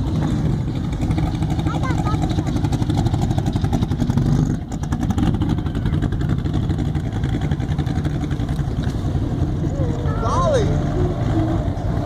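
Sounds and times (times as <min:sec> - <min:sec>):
loud vehicle engine running: 0:00.0 - 0:12.0.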